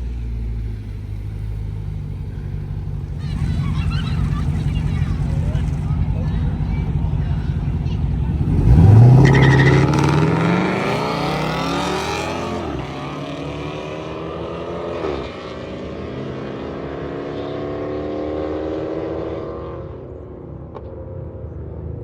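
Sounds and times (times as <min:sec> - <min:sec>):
race cars accelerating: 0:00.0 - 0:21.7.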